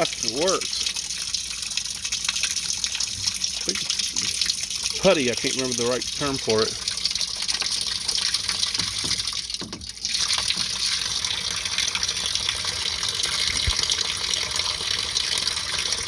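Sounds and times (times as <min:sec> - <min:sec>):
water pouring into tub: 0:00.0 - 0:16.0.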